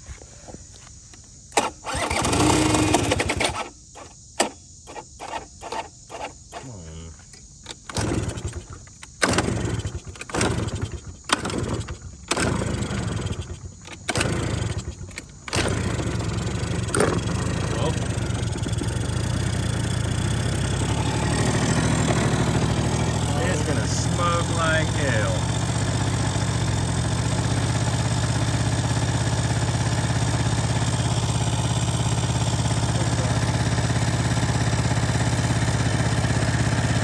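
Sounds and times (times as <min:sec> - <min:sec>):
scooter engine cranking and starting: 0:01.5 - 0:06.7, 0:07.6 - 0:37.0.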